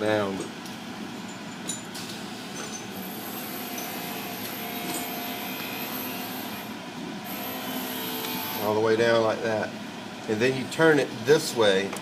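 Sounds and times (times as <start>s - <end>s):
room hum and hiss: 0.0s - 12.0s.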